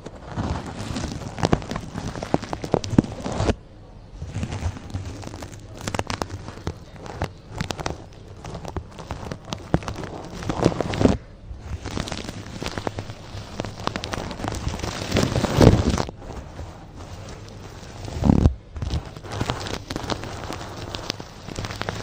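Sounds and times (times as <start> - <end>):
crackly scratching with clicks: 0.0 - 22.0.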